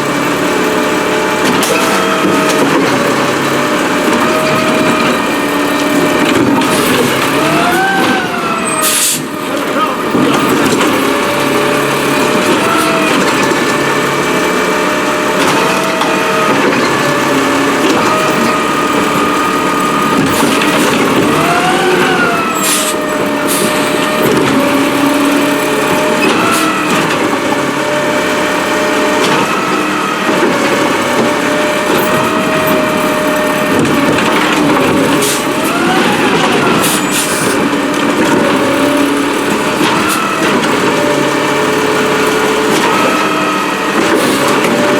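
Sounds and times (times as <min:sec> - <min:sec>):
garbage truck engine running: 0:00.0 - 0:44.9.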